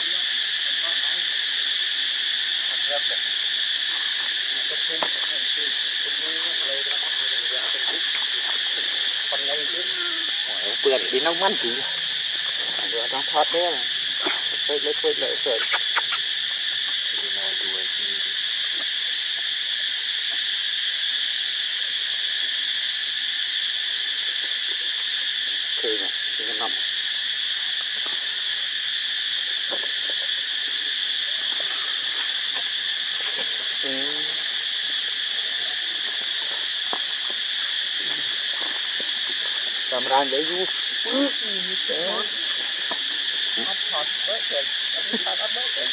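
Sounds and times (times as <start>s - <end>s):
insect chorus droning: 0.0s - 45.9s
short pitched insect calls: 0.0s - 45.9s.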